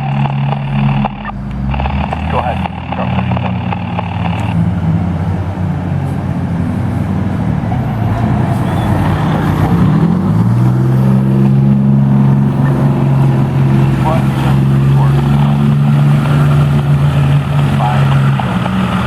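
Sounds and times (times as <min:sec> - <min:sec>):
fire truck engine revving: 0:00.0 - 0:19.0.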